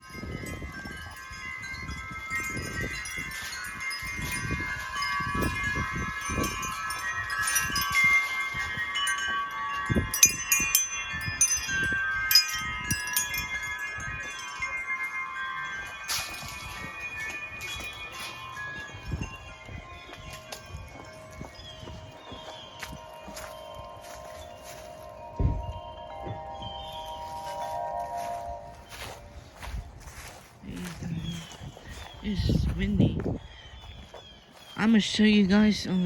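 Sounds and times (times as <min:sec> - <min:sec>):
wind chimes ringing: 0:00.0 - 0:36.0
wind rumbling on microphone: 0:00.0 - 0:36.0.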